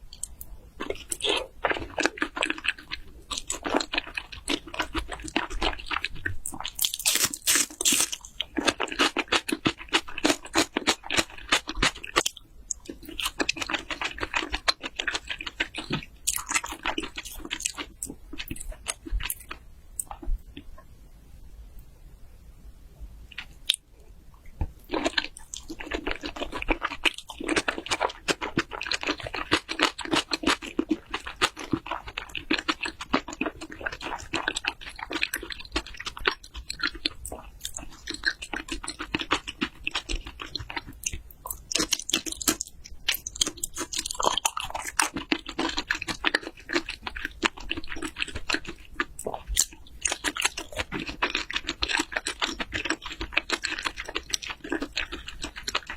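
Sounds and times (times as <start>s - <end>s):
close chewing and mouth clicks: 0.0s - 20.9s, 23.3s - 55.9s.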